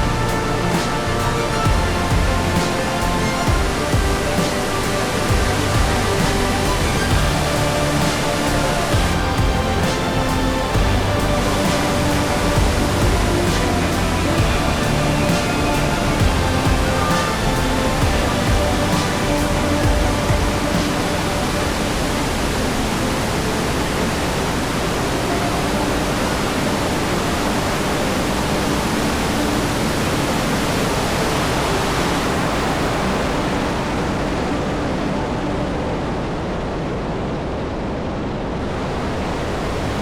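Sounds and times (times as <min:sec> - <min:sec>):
waterfall rushing: 0:00.0 - 0:37.9, 0:38.5 - 0:40.0.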